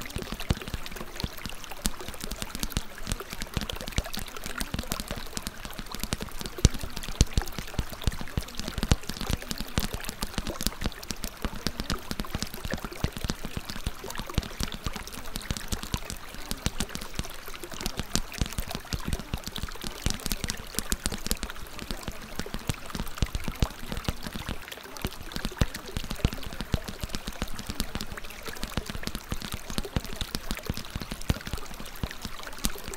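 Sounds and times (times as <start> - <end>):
water pouring and trickling: 0.0 - 32.9.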